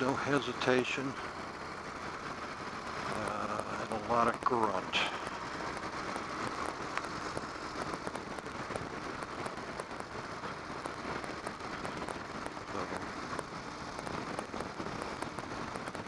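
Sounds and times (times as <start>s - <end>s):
wind rush in motorcycle helmet: 1.3s - 16.0s.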